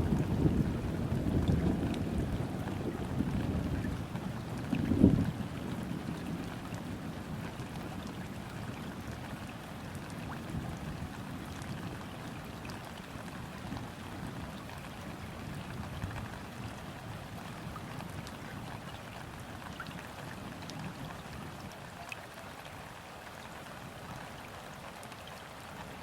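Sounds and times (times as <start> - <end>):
rain falling on river: 0.0 - 26.0.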